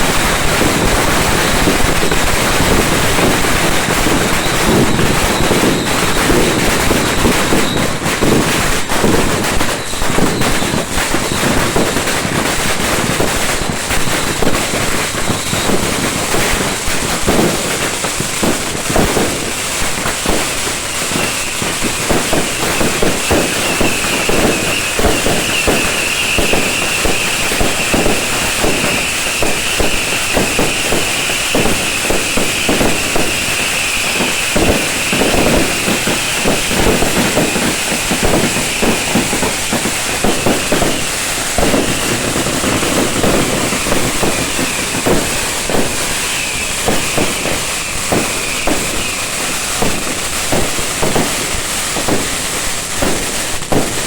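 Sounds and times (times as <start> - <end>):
fireworks pops and cracks: 0.0 - 54.0
high hiss of fireworks: 0.0 - 54.0.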